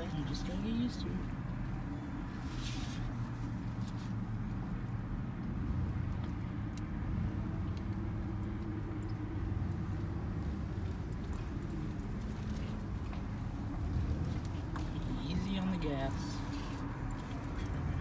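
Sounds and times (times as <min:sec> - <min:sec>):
truck engine low hum: 0:00.0 - 0:18.0.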